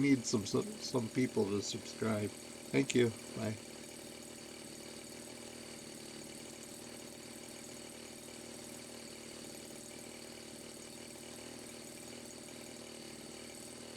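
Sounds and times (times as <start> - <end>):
two-stroke engine idling: 0.0 - 13.9.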